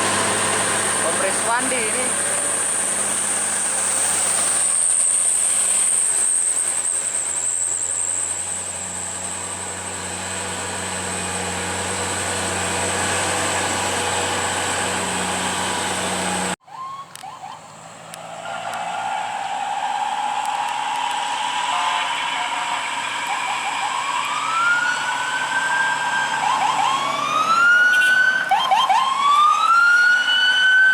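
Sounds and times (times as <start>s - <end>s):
heavy vehicle engine running: 0.0s - 16.6s, 17.6s - 28.8s.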